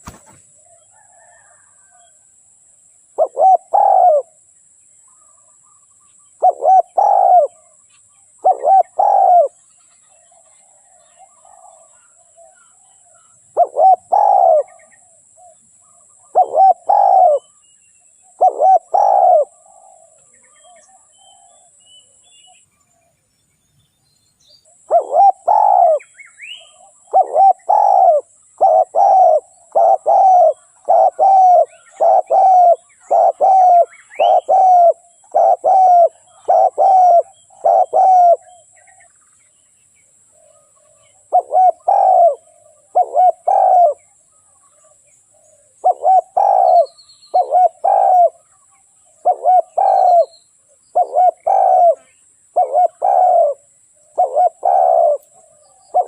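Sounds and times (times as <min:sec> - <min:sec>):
dove cooing: 0:00.0 - 0:02.2, 0:03.1 - 0:04.4, 0:06.3 - 0:07.8, 0:08.4 - 0:09.6, 0:10.2 - 0:17.6, 0:18.2 - 0:21.8, 0:24.7 - 0:39.1, 0:40.4 - 0:56.0
small birds chirping: 0:05.0 - 0:56.0.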